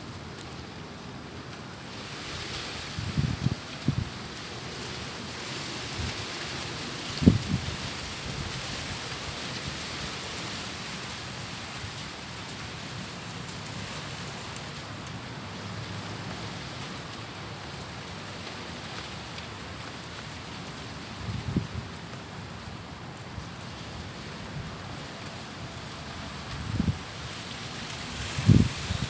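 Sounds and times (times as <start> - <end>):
wind rustling tree leaves: 0.0 - 29.0.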